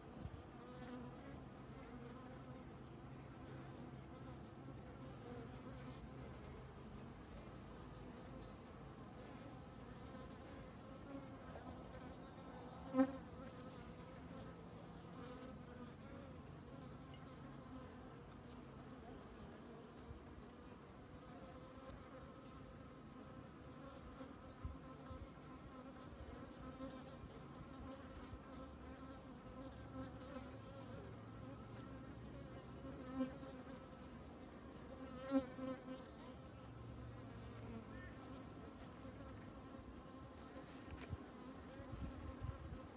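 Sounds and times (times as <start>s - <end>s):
bee buzzing close by: 0.0s - 42.9s
honeybees buzzing: 0.1s - 42.9s.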